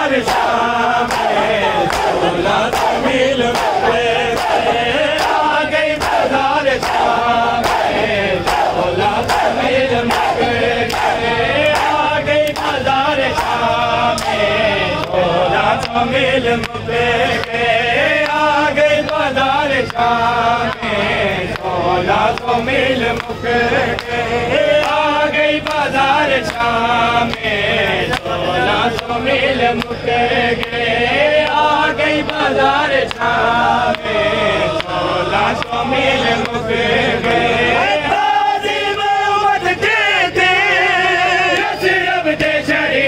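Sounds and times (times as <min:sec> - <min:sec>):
men chanting a lament: 0:00.0 - 0:43.0.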